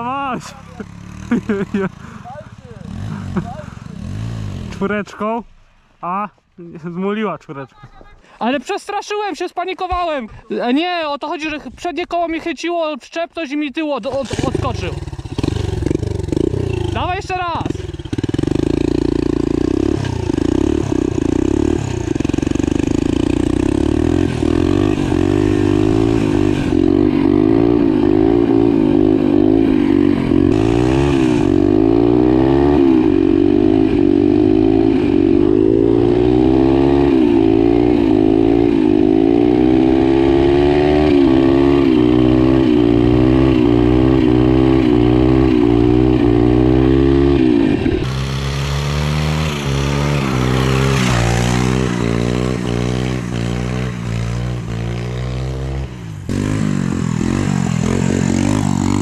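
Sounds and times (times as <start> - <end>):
pit bike engine accelerating: 0.6 - 4.9, 14.1 - 59.0.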